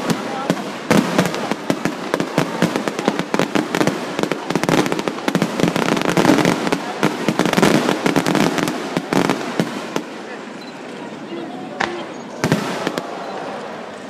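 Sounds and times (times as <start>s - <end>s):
fireworks barrage: 0.0s - 10.6s, 11.7s - 13.9s.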